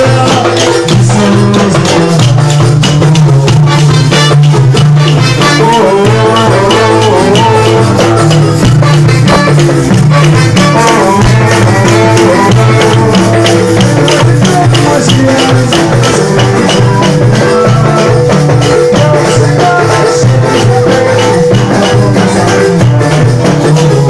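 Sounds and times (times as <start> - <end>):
bass line: 0.0 - 24.0
drums: 0.0 - 24.0
rattling shaker: 0.0 - 24.0.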